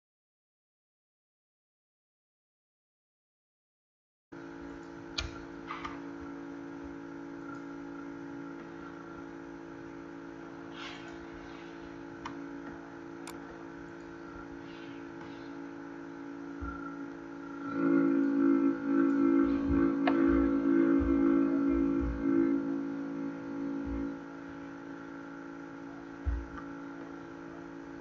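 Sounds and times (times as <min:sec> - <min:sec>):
computer humming: 0:04.4 - 0:28.0.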